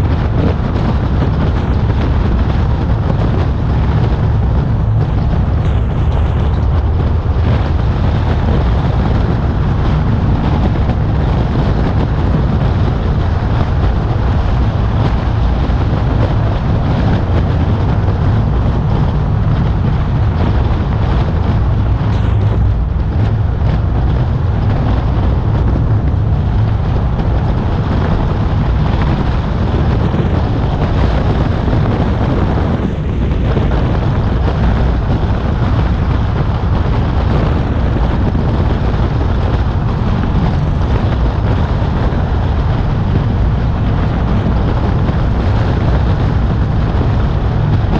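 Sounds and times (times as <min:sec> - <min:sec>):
car engine hum: 0:00.0 - 0:47.9
road and wind noise: 0:00.0 - 0:47.9.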